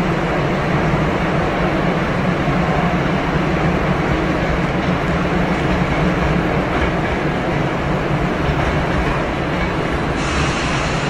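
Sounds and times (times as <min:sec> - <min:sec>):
electric train running rumble: 0:00.0 - 0:11.0.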